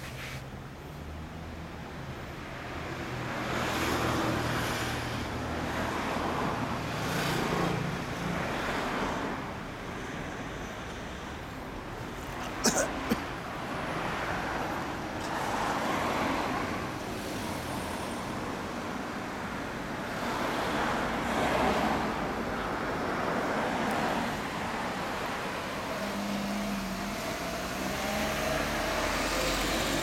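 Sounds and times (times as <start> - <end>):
cars passing by: 0.0 - 30.0.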